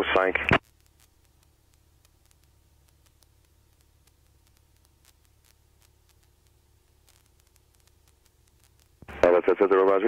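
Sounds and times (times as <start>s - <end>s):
faint low hum: 0.0s - 10.0s
tiny ticks: 0.6s - 9.1s.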